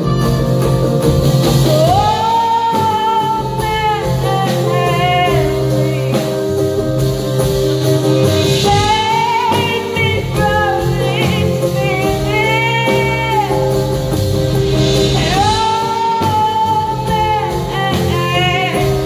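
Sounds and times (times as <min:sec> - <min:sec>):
backing band with drums: 0:00.0 - 0:19.0
woman singing: 0:01.4 - 0:19.0.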